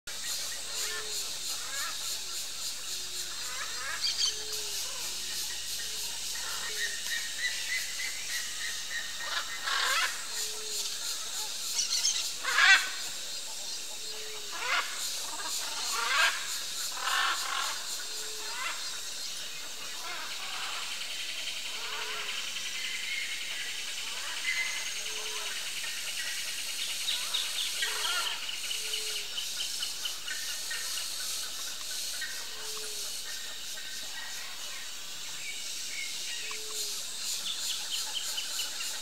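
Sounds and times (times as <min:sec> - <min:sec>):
birds calling: 0:00.1 - 0:39.0
steady high hiss: 0:00.1 - 0:39.0.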